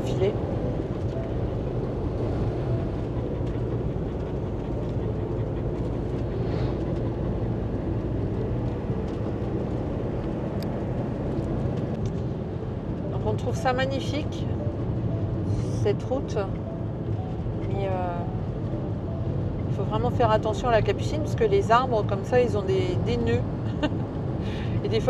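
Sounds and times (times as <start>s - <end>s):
engine and road noise in cab: 0.0s - 25.0s.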